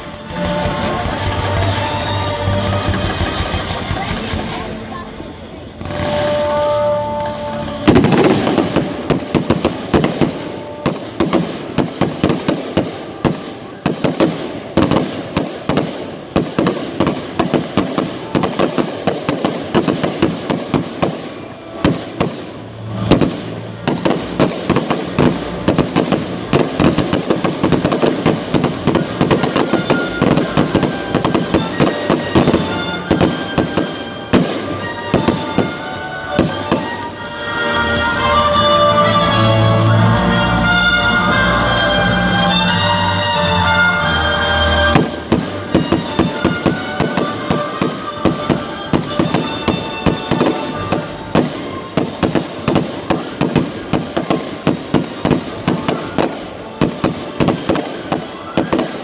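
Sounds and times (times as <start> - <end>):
fireworks bangs and crackles: 0.0 - 59.0
music: 0.0 - 59.0.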